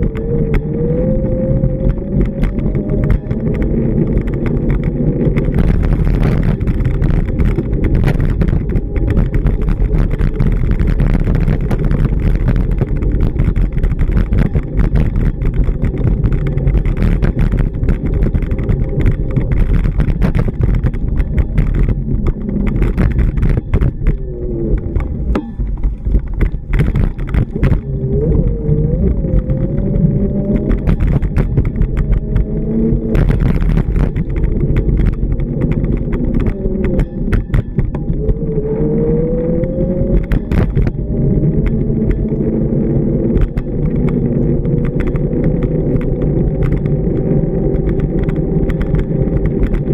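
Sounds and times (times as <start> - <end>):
cars passing rumble: 0.0 - 49.9
small knocks and ticks: 0.0 - 49.9.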